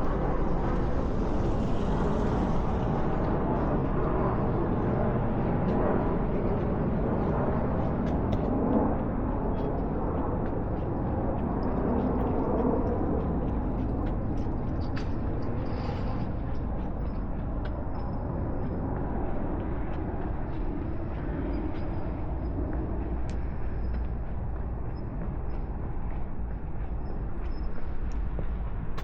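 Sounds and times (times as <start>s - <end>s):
outdoor background rumble: 0.0s - 29.0s.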